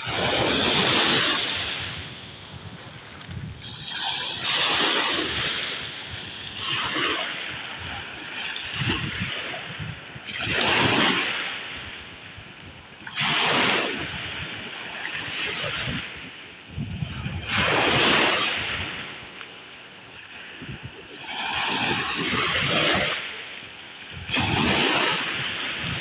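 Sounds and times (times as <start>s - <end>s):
sea waves lapping and splashing: 0.0s - 26.0s.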